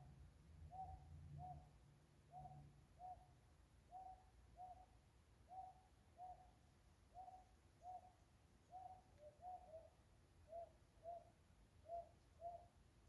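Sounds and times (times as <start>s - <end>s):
cuckoo hooting faintly: 0.0s - 12.9s.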